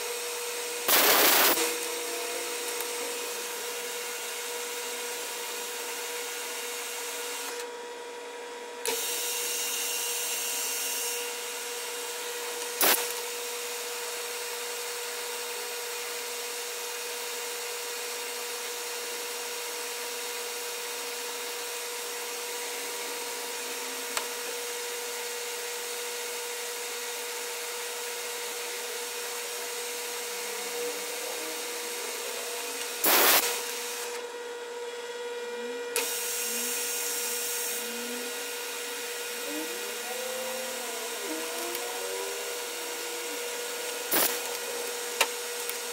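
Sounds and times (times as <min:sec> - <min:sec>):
lathe motor humming: 0:00.0 - 0:45.9.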